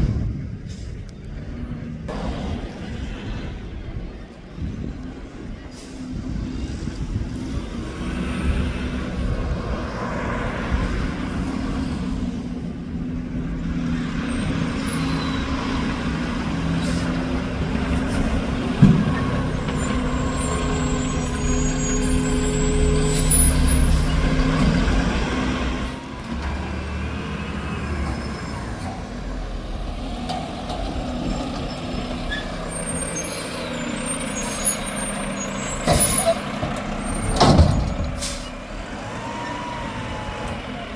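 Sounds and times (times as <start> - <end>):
garbage truck diesel engine: 0.0 - 40.9.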